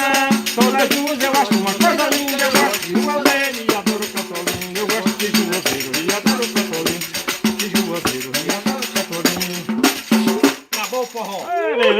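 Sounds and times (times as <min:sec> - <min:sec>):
pandeiro rhythm with jingles: 0:00.0 - 0:11.9.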